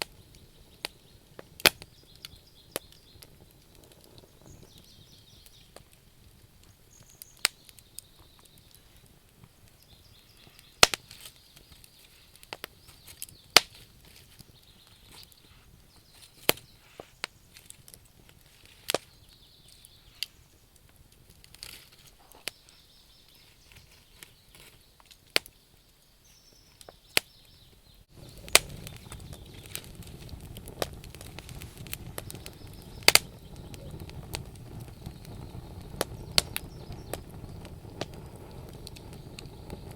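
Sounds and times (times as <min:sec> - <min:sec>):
low rumble of flames: 0:00.0 - 0:25.5, 0:27.2 - 0:39.9
wood popping in fire: 0:00.0 - 0:39.9.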